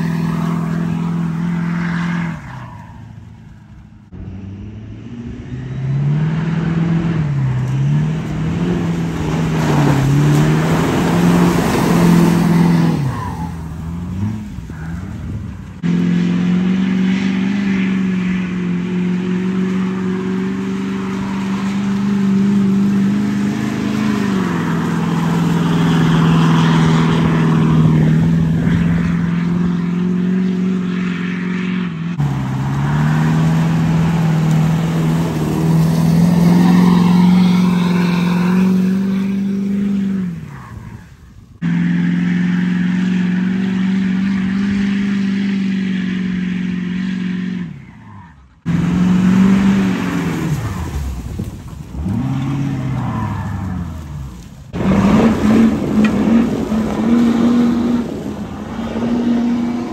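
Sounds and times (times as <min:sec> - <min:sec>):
truck engine revving: 0:00.0 - 0:59.9
tyres spinning through mud: 0:07.3 - 0:59.9.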